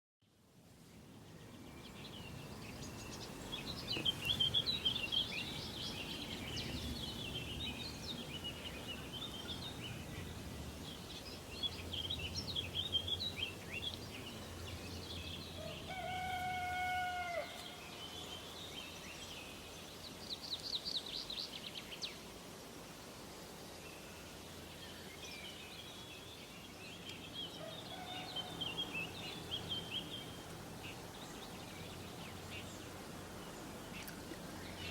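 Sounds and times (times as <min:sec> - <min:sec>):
songbirds chirping and trilling: 0:00.3 - 0:34.9.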